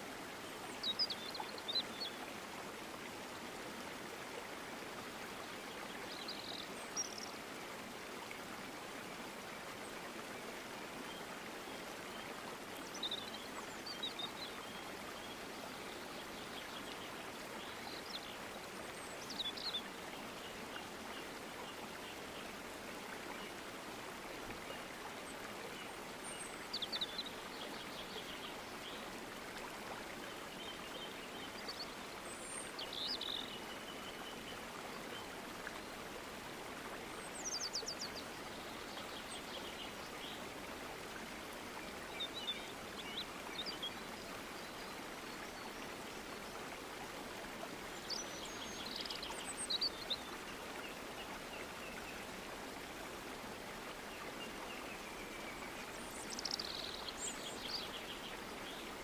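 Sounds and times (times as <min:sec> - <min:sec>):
songbirds chirping: 0:00.0 - 0:59.0
stream flowing over rocks: 0:00.0 - 0:59.0.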